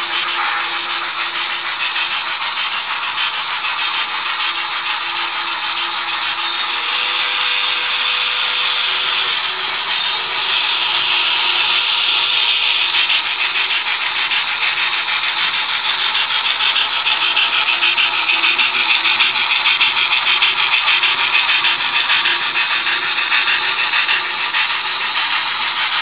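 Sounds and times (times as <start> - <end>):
model train whirring rattle: 0.0 - 26.0
quick regular beat: 0.0 - 26.0.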